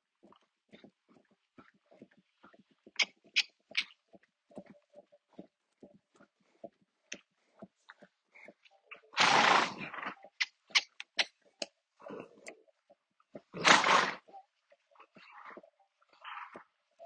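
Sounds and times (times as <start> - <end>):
animal clicks and ticks: 0.2 - 9.3, 9.9 - 17.0.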